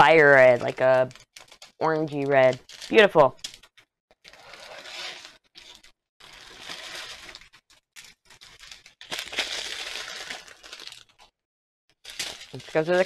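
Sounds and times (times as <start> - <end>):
plastic bags crinkling: 0.0 - 11.3, 12.0 - 13.0.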